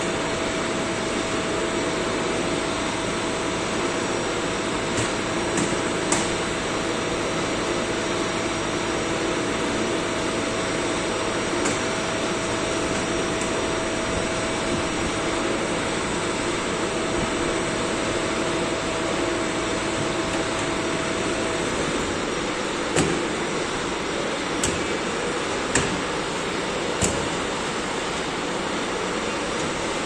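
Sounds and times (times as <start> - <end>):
steady hum tone: 0.0 - 30.0.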